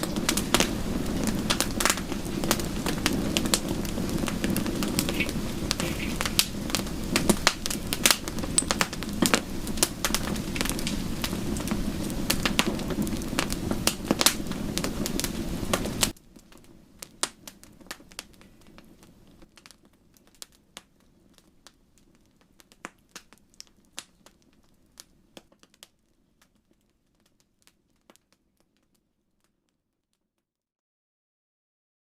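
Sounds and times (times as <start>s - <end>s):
wood fire crackling and popping: 0.0s - 29.8s.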